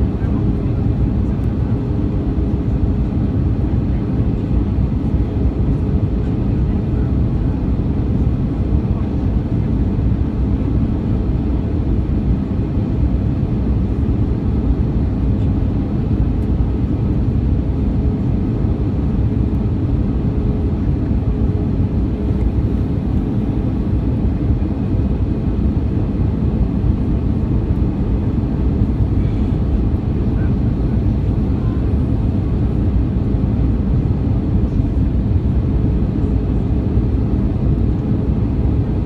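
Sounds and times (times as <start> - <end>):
airliner cabin noise: 0.0 - 39.0.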